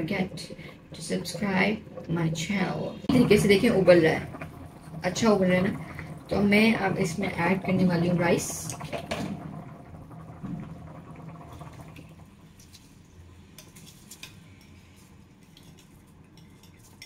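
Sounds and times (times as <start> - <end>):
water boiling and bubbling: 0.0 - 17.0.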